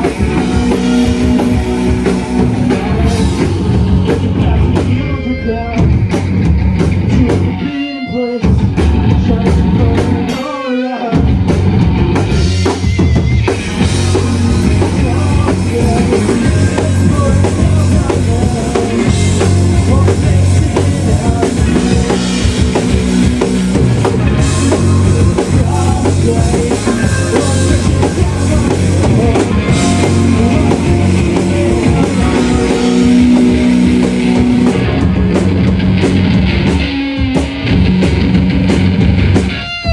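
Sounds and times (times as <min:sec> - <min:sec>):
drum kit: 0:00.0 - 0:07.7, 0:08.4 - 0:39.9
distorted guitars: 0:00.0 - 0:39.9.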